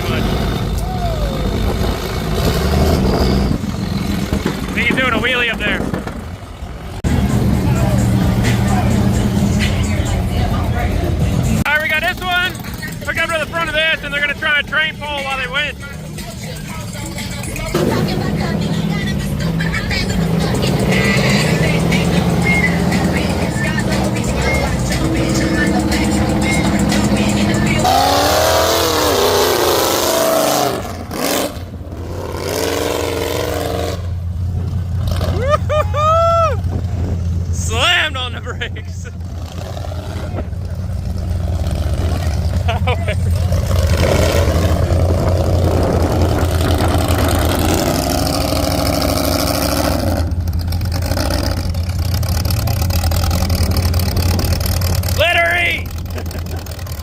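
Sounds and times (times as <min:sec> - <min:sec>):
truck engine revving hard: 0:00.0 - 0:57.0.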